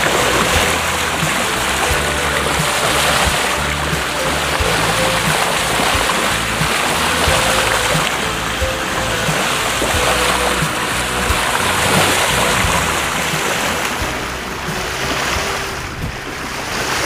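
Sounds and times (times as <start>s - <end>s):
background music with low notes: 0.0s - 17.0s
seawater and spray rushing: 0.0s - 17.0s.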